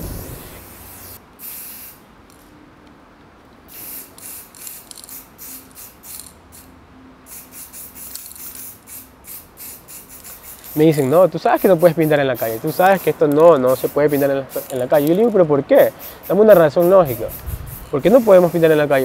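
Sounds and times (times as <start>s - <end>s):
spray paint can hissing: 0.0s - 2.0s, 3.7s - 19.0s.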